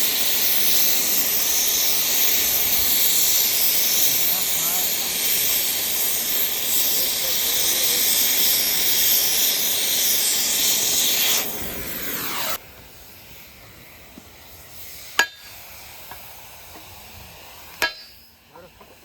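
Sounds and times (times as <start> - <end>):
gas cutting torch hissing: 0.0 - 19.0.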